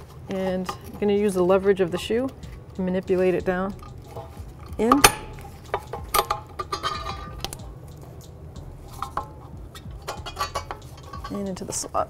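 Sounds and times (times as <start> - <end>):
metal brake shoe clinking: 0.3 - 12.0
metallic ringing: 0.4 - 12.0.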